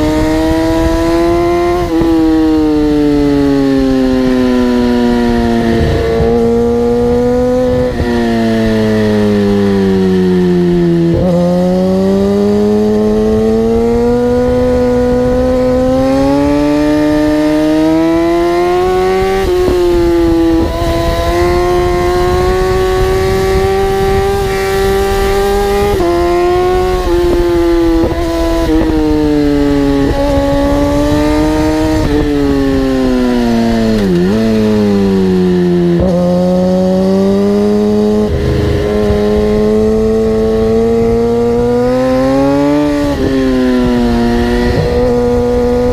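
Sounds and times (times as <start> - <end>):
racing engine revving: 0.0 - 45.9.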